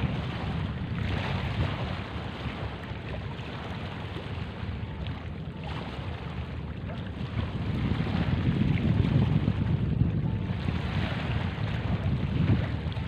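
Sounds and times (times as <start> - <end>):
small waves washing in shallows: 0.0 - 13.0
wind buffeting microphone: 0.0 - 13.0.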